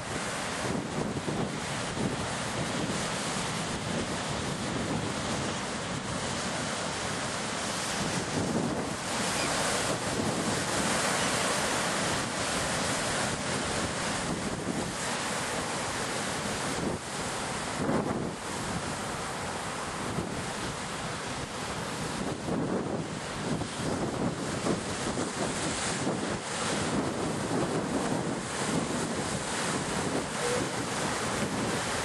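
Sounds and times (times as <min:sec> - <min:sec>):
wind buffeting microphone: 0:00.0 - 0:15.1, 0:16.5 - 0:32.0
ocean waves washing: 0:00.0 - 0:32.0.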